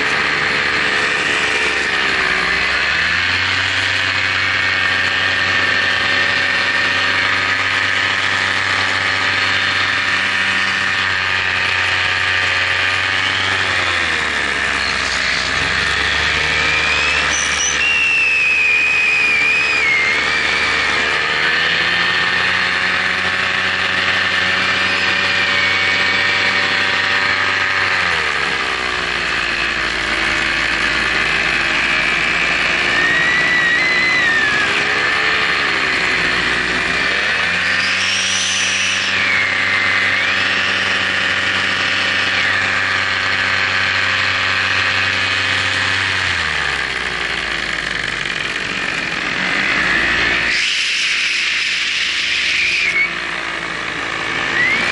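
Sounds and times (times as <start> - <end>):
model aircraft motors and propellers: 0.0 - 54.9.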